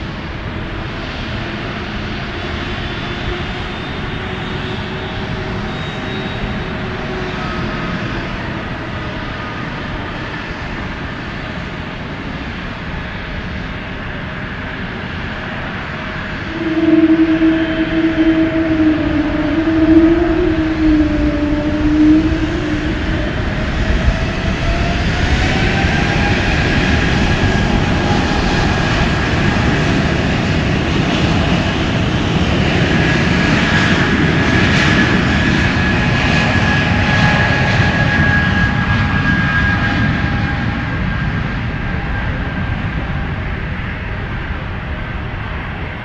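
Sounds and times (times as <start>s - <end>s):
airliner engines roaring past: 0.0s - 46.0s.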